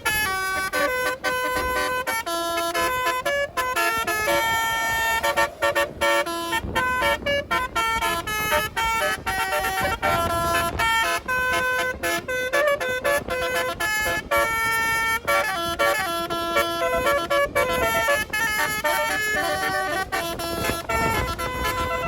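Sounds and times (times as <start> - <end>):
musical bus horn melody: 0.0 - 22.0.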